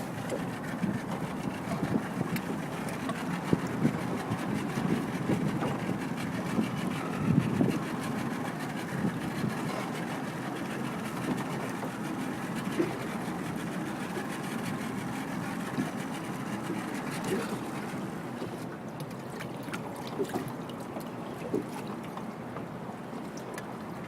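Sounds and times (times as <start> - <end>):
motorboat engine idling: 0.0 - 24.0.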